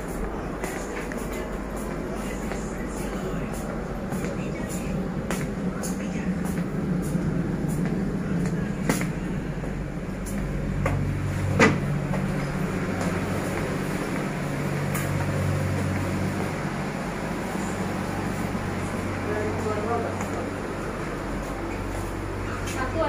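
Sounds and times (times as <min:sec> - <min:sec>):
train carriage hum and rumble: 0:00.0 - 0:23.0.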